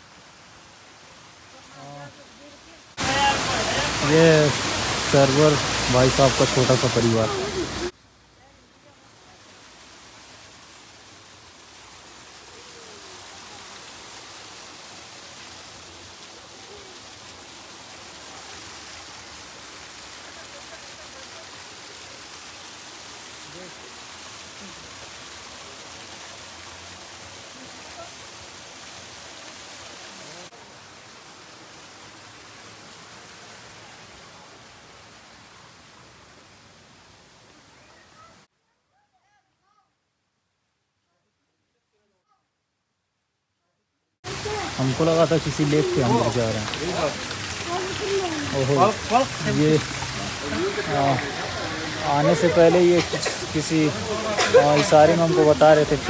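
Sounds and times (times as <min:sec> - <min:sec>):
waterfall splashing into pool: 0:00.0 - 0:08.0, 0:09.2 - 0:38.5, 0:44.2 - 0:56.0.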